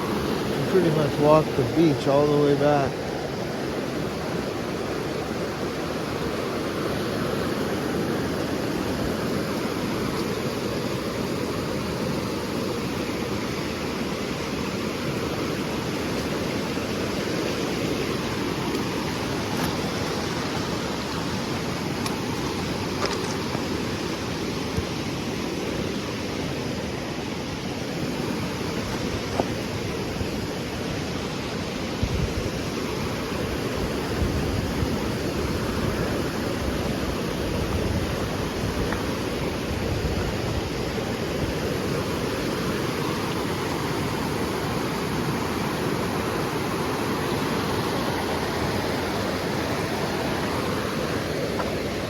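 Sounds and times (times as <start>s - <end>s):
water rushing along a beach: 0.0s - 52.0s.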